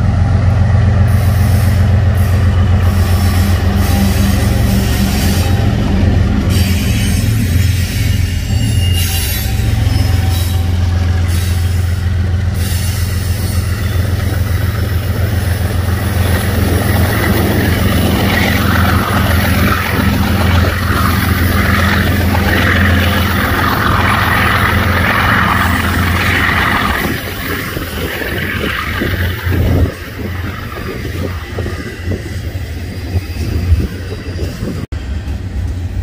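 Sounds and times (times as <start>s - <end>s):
locomotive engines rumbling: 0.0s - 36.0s
train wheels rushing on rails: 0.0s - 36.0s.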